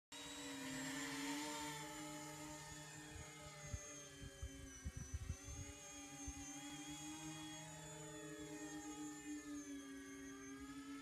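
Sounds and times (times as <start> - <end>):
model plane propellers whining: 0.2 - 11.0.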